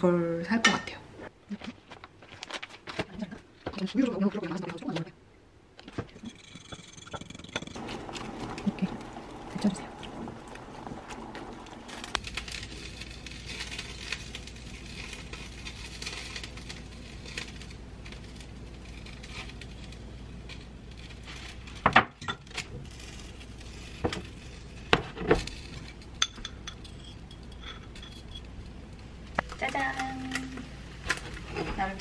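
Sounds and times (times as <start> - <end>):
steady low hum: 5.5 - 32.0.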